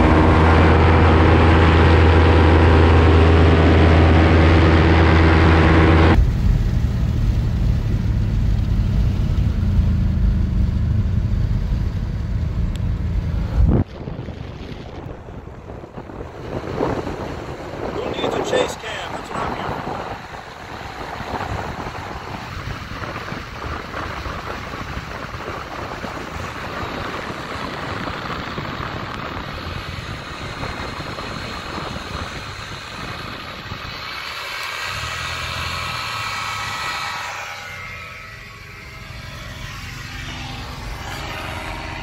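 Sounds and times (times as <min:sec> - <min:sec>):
car road and wind noise: 0:00.0 - 0:42.0
paramotor engine buzz: 0:00.0 - 0:42.0.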